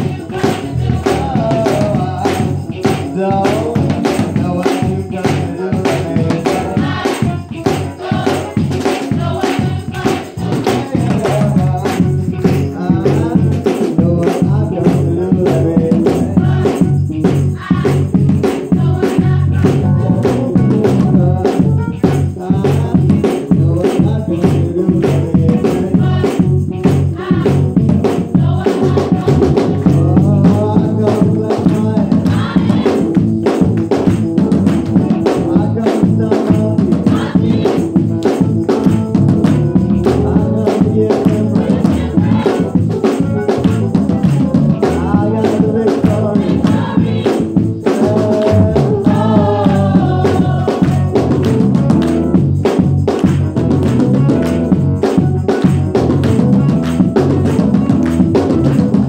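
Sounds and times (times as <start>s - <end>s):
gospel choir singing: 0.0s - 52.3s
drum kit: 0.0s - 59.0s.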